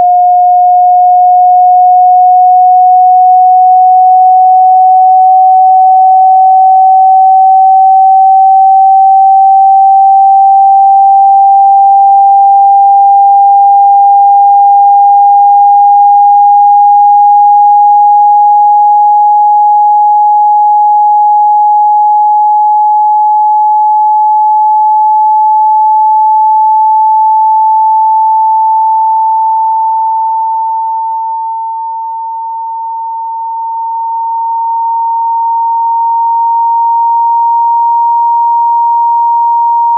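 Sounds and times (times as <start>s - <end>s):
rising sine tone: 0.0s - 39.9s.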